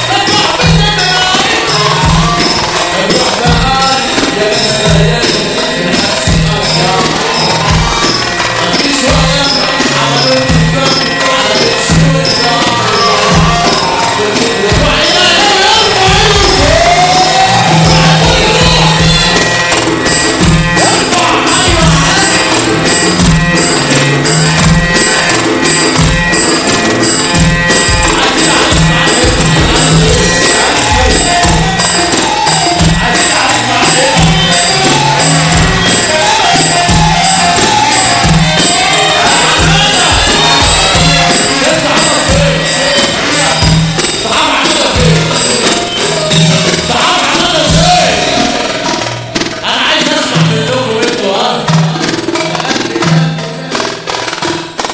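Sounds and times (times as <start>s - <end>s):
loud music with fast drum beat: 0.0s - 54.9s.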